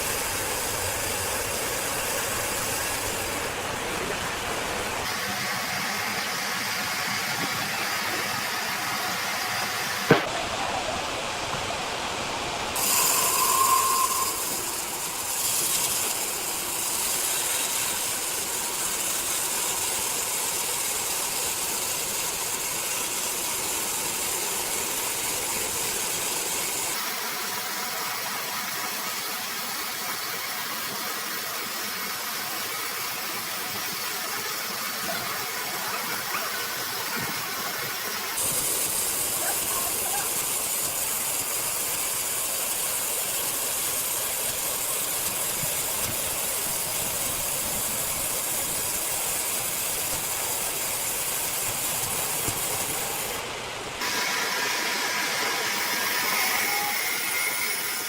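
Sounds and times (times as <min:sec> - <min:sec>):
sawmill machinery running: 0:00.0 - 0:10.4, 0:11.1 - 0:58.0.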